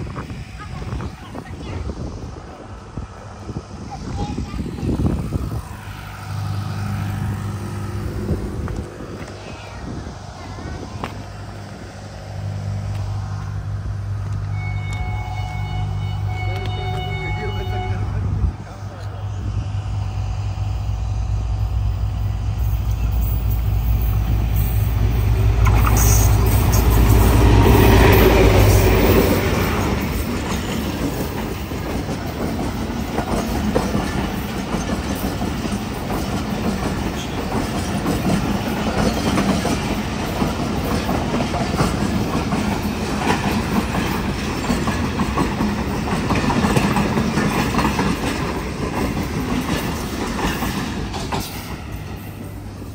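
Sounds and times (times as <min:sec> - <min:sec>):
locomotive engine: 0:00.0 - 0:52.9
train wheels on rails: 0:00.0 - 0:52.9.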